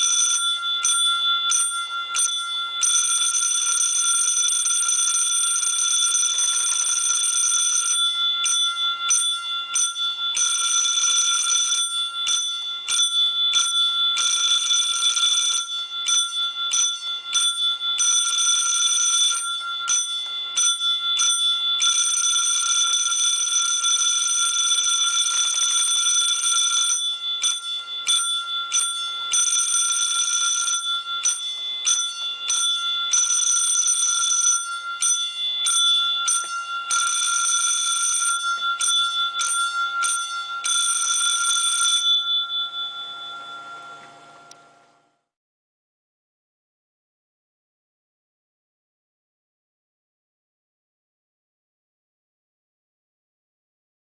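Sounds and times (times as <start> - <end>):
fire alarm bell ringing: 0.0 - 45.2.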